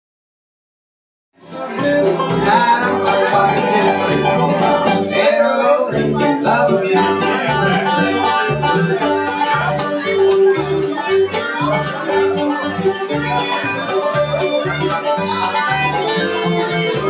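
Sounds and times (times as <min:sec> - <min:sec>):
banjo picking: 0:01.4 - 0:17.0
bluegrass band playing: 0:01.4 - 0:17.0
upright bass: 0:01.4 - 0:17.0.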